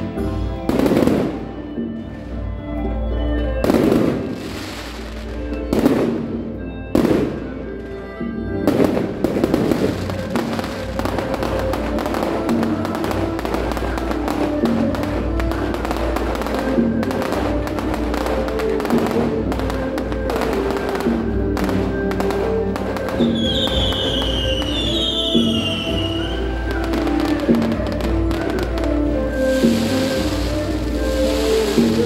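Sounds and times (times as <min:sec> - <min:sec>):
fireworks booming and crackling: 0:00.0 - 0:02.4, 0:03.5 - 0:32.0
music playing: 0:00.0 - 0:32.0.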